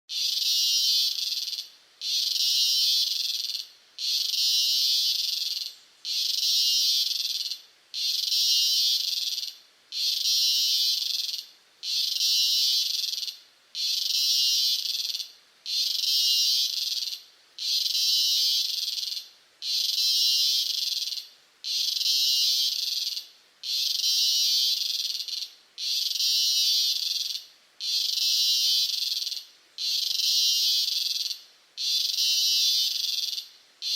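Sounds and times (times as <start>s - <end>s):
cicada buzzing: 0.1s - 33.9s.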